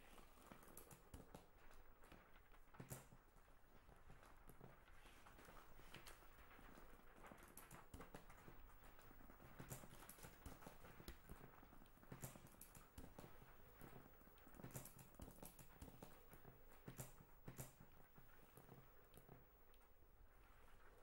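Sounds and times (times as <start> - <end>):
faint clicking and tapping: 0.0 - 21.0.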